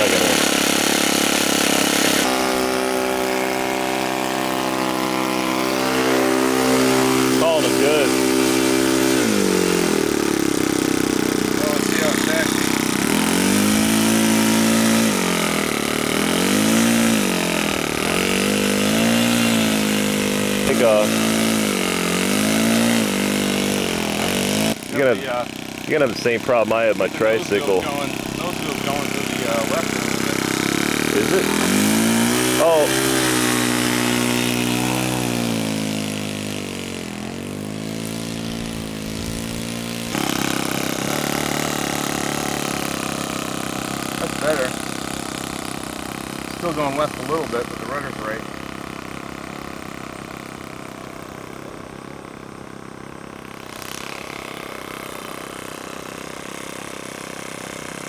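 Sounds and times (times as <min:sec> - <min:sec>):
model plane engine running: 0:00.0 - 0:58.0.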